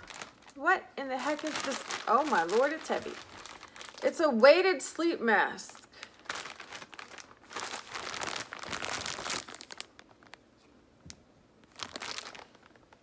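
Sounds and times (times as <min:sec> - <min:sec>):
plastic packaging crinkling: 0:00.0 - 0:04.4, 0:05.5 - 0:10.5, 0:11.6 - 0:13.0.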